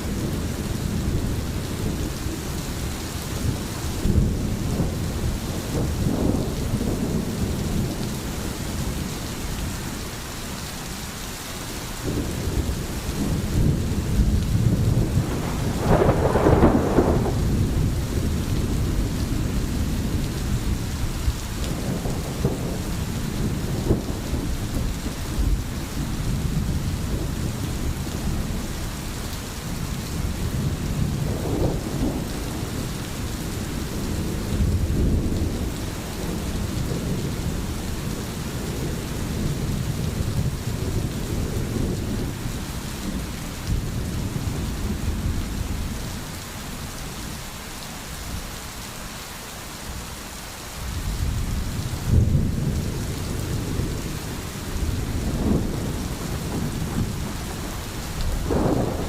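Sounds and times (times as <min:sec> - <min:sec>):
rolling thunder rumble: 0:00.0 - 0:10.0, 0:12.0 - 0:46.4, 0:50.9 - 0:59.0
steady rain falling: 0:00.0 - 0:59.0.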